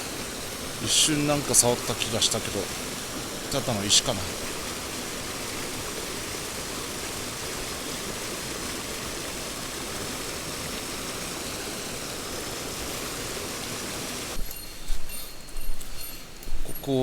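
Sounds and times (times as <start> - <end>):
stream water rushing: 0.0 - 14.4.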